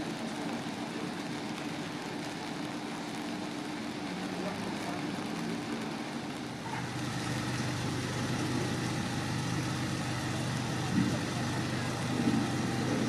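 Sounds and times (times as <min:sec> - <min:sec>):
fire engine idling: 0:00.0 - 0:13.0.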